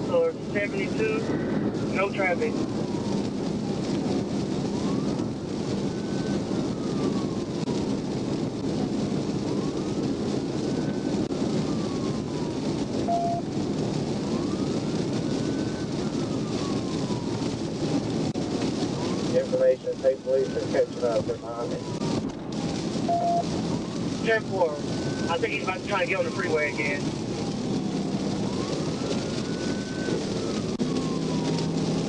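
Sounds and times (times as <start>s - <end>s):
police siren wailing: 0.0s - 32.0s
tyre and road noise: 0.0s - 32.0s.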